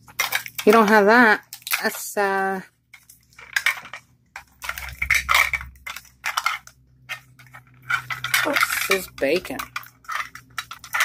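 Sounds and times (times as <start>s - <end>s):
plastic wrapping crinkling: 0.0s - 2.3s, 2.9s - 11.0s.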